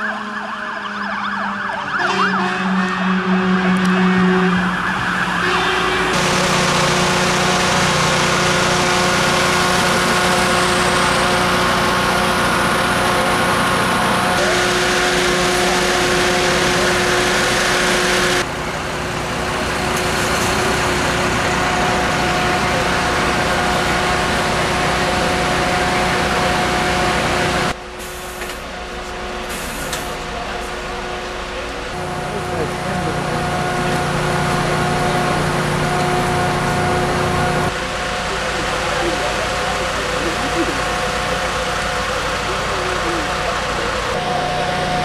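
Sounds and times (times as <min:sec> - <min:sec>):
diesel engines droning: 0:00.0 - 0:45.0.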